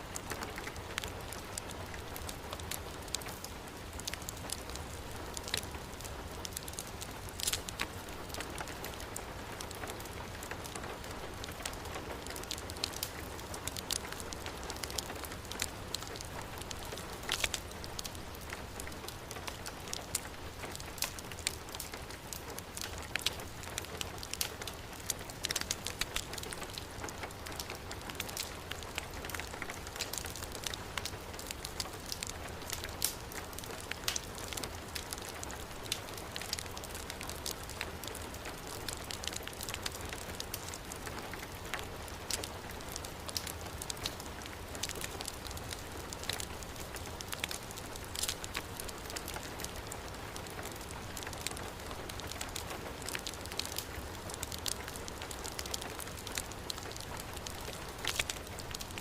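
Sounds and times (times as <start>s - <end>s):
fire crackling in fireplace: 0.0s - 59.0s
heavy rain falling: 0.1s - 59.0s.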